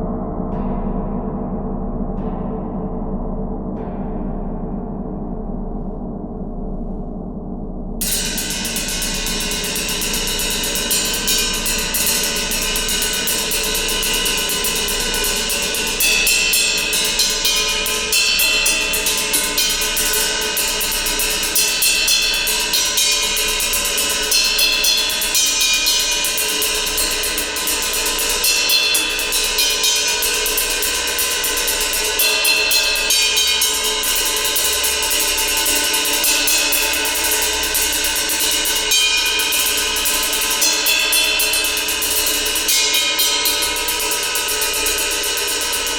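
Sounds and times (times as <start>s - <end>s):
gong ringing: 8.0s - 45.9s.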